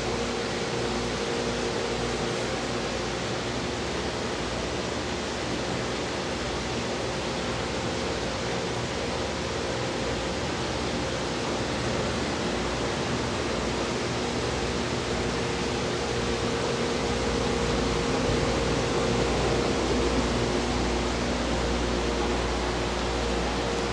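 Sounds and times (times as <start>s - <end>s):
ventilation hiss and hum: 0.0s - 23.9s.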